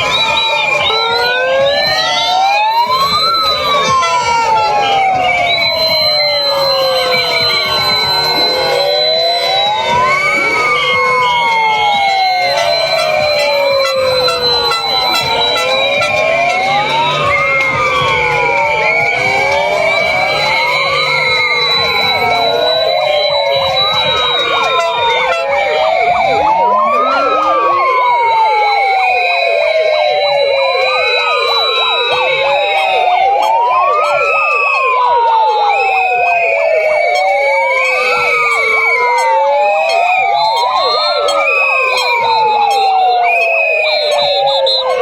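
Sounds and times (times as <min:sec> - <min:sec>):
sirens wailing: 0:00.0 - 0:45.0.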